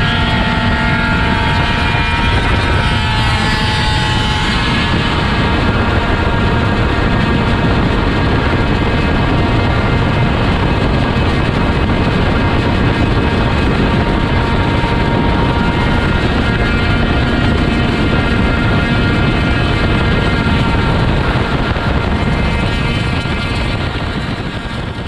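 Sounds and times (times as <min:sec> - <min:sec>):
engine-like drone: 0:00.0 - 0:25.0.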